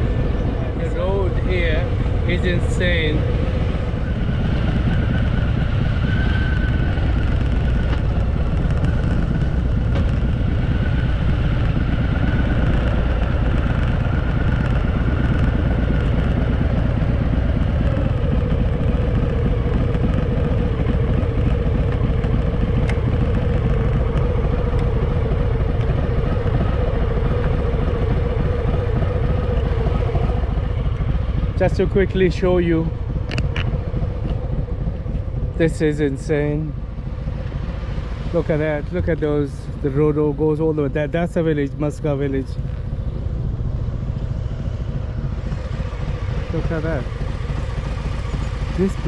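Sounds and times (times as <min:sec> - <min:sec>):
motorcycle engine rumble: 0:00.0 - 0:49.0.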